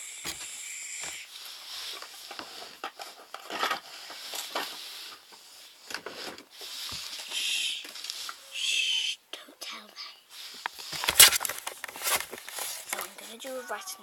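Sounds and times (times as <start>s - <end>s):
hands handling plastic toy: 0.3s - 8.4s, 10.4s - 14.0s.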